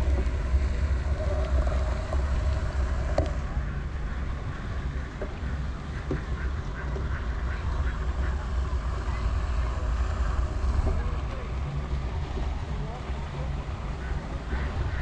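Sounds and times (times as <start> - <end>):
wind rumble on microphone: 0.0 - 15.0
ducks quacking: 0.4 - 11.8, 12.9 - 15.0.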